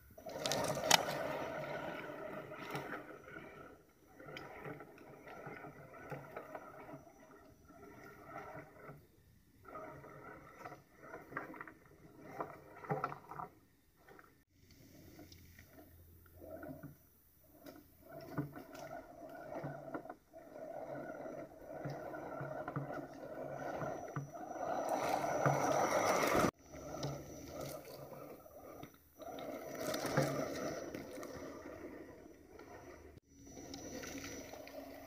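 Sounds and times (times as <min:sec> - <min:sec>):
electric drivetrain whining: 0:00.0 - 0:13.5, 0:14.6 - 0:35.0.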